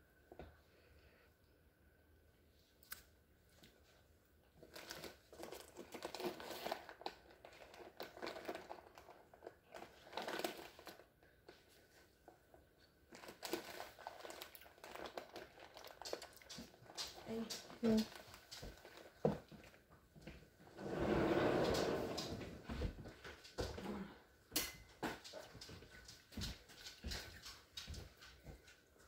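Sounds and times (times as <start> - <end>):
crinkling and rustling: 2.8 - 29.0.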